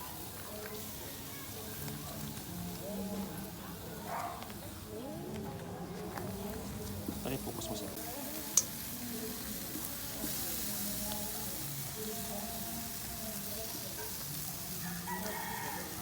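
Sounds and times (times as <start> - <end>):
skewers sizzling on a grill: 0.0 - 16.0.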